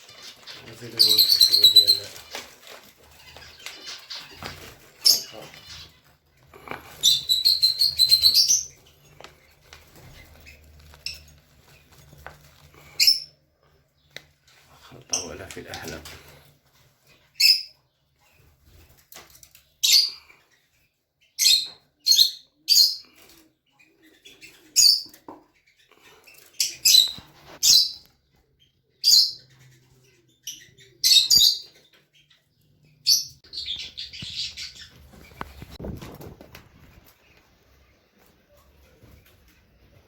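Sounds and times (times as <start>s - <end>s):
scratchy bird chatter: 0.0s - 40.0s
small birds chirping: 0.0s - 40.0s.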